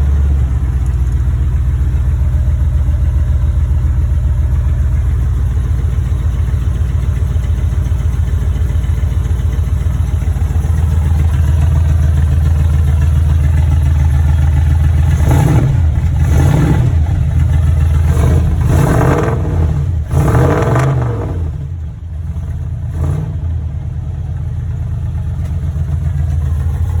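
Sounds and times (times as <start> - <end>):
engine revving and idling: 0.0 - 27.0.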